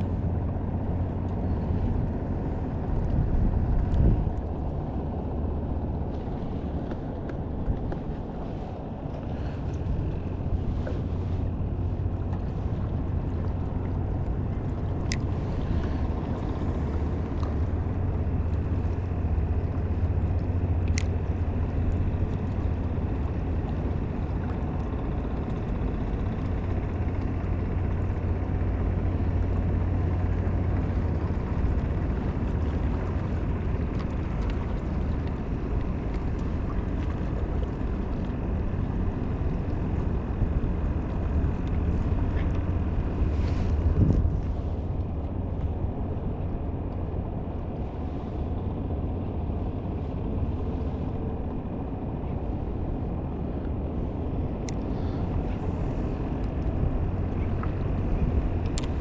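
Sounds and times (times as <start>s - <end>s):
outboard motor humming: 0.0s - 59.0s
water noise: 0.0s - 59.0s
wind: 0.0s - 59.0s.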